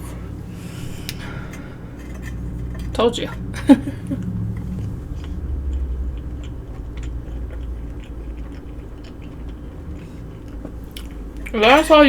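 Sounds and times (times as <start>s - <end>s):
chewing food: 0.0s - 12.0s
low steady hum: 0.0s - 12.0s.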